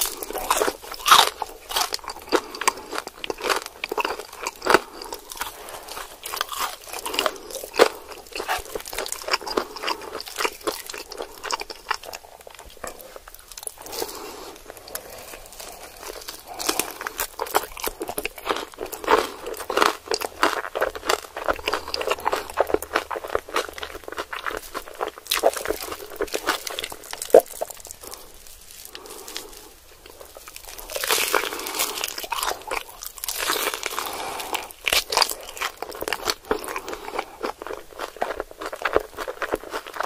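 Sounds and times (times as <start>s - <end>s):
chewing crispy fried chicken: 0.0s - 40.0s.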